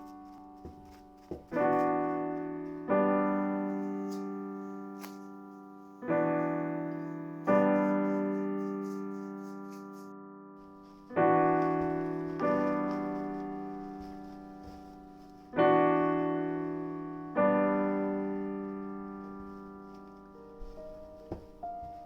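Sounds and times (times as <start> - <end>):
slow solo piano chords: 0.0 - 22.0.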